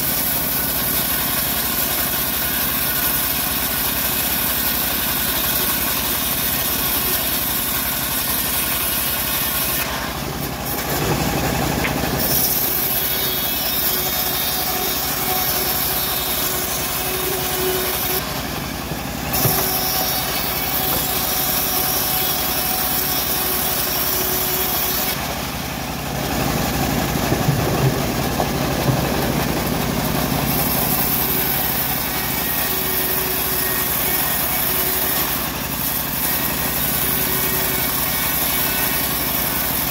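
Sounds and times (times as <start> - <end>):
band saw blade cutting wood: 0.0 - 25.4, 29.0 - 39.9
engine running: 0.0 - 39.9.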